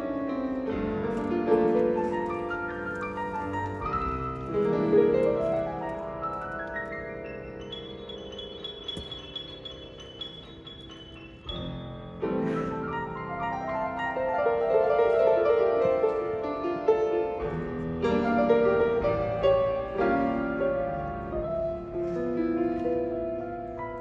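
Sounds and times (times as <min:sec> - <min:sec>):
grand piano playing jazz chords: 0:00.0 - 0:24.0.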